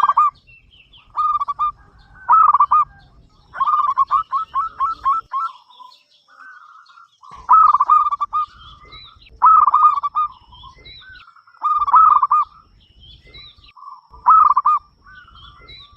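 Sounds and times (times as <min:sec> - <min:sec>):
dove cooing: 0:00.0 - 0:15.9.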